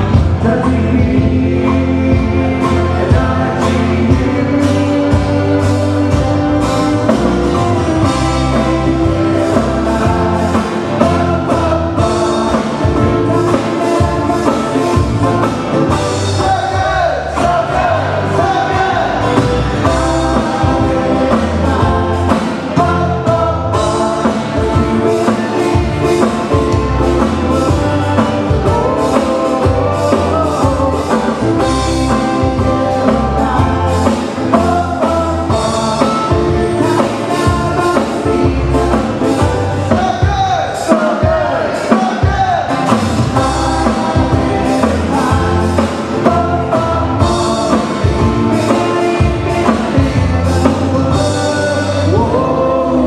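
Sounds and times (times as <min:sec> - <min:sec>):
live band playing hawaiian-style song: 0:00.0 - 0:53.0
people singing: 0:00.0 - 0:53.0.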